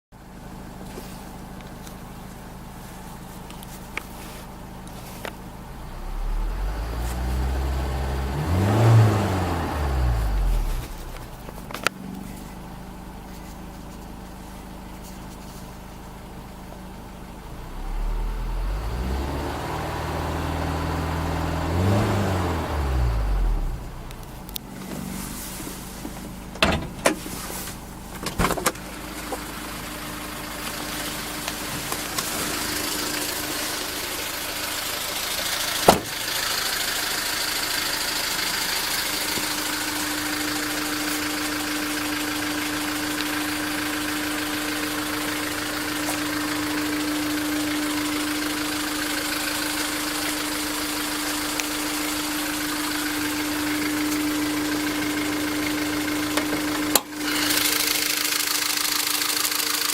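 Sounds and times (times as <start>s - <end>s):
car engine idling: 0.2s - 59.9s.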